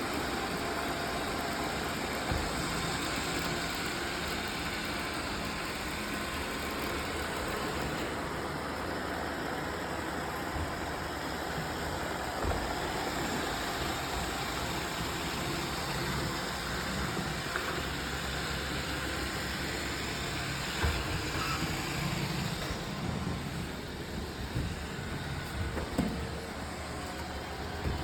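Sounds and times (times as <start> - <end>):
robot vacuum motor and brush whir: 0.0 - 28.0.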